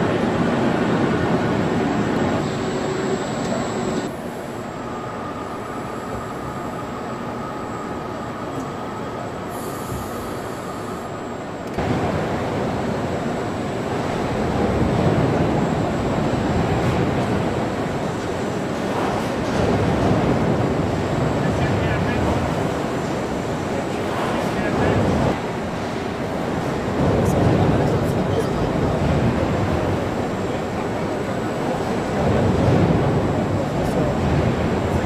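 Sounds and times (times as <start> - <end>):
factory machinery rumbling and hissing: 0.0 - 35.0
faint steady whine: 0.0 - 35.0.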